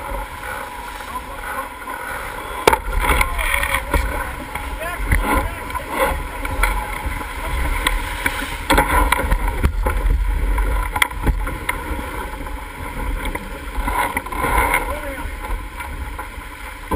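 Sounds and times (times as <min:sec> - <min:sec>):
water rushing along hull: 0:00.0 - 0:16.9.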